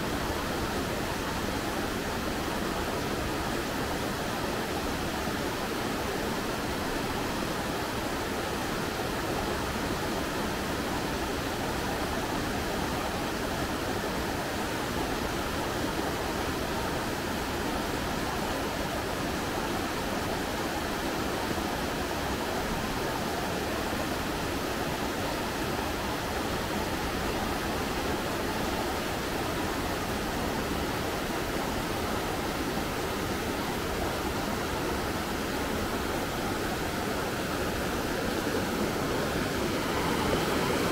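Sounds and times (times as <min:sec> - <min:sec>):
mountain stream rushing over boulders: 0:00.0 - 0:40.9.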